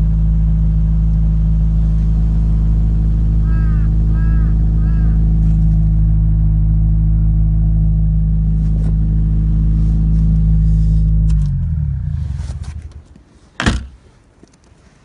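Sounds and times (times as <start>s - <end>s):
engine winding down: 0.0s - 13.2s
car engine idling: 0.0s - 14.2s.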